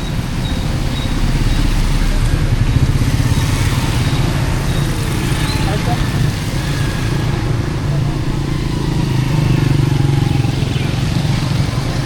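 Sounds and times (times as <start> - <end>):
busy street noise: 0.0 - 12.0
vehicle engine running: 0.0 - 12.0.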